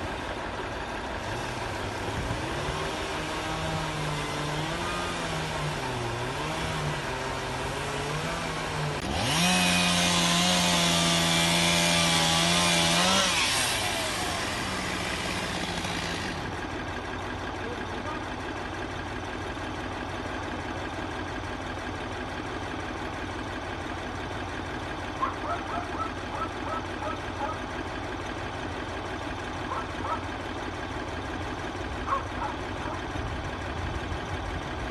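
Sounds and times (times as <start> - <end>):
band sawmill engine running: 0.0 - 34.9.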